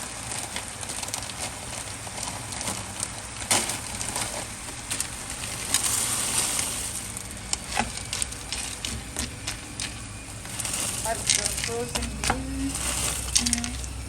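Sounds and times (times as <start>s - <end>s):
sauce sizzling in a pot: 0.0s - 14.0s.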